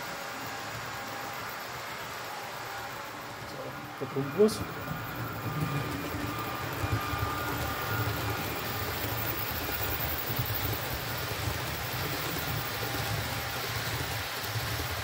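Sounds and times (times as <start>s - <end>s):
model train wheels rumbling on track: 0.0s - 15.0s.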